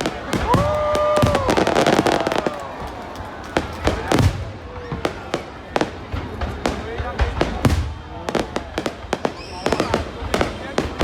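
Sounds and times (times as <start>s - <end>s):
fireworks bangs: 0.0s - 11.0s
fireworks crackling pops: 0.0s - 11.0s.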